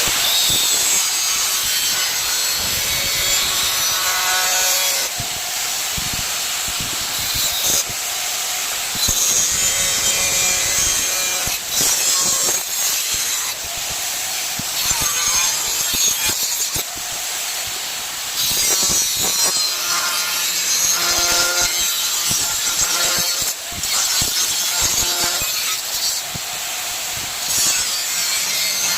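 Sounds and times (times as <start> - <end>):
metal hissing and scraping: 0.0 - 28.9.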